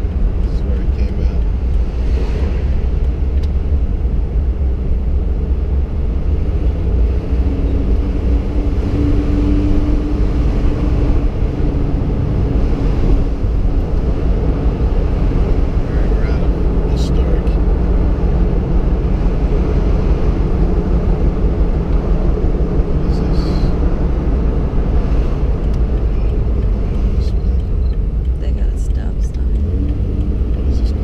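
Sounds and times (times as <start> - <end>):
road and engine rumble: 0.0 - 31.0.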